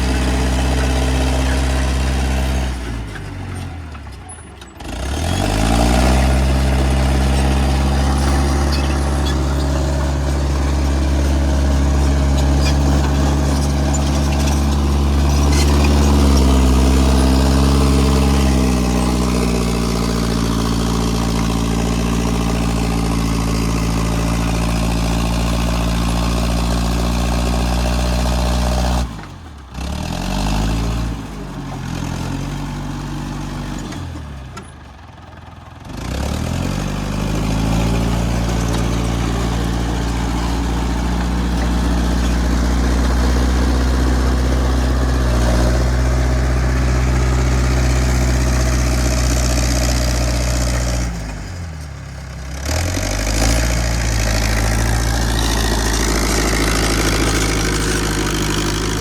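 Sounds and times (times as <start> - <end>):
crawler loader engine running: 0.0 - 59.0.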